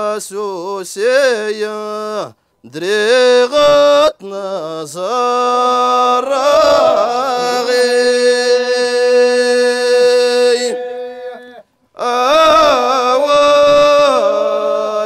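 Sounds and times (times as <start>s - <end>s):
men singing unaccompanied chant: 0.0s - 15.0s.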